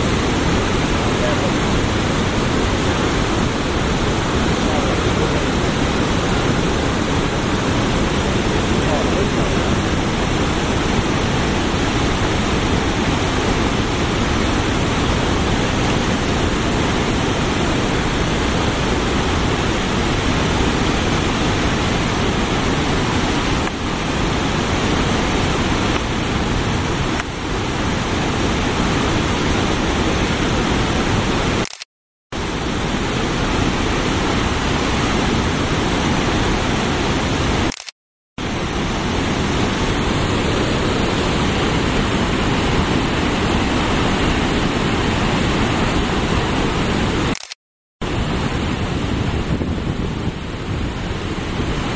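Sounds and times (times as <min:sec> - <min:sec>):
waterfall rushing: 0:00.0 - 0:31.6, 0:32.4 - 0:37.8, 0:38.4 - 0:47.4.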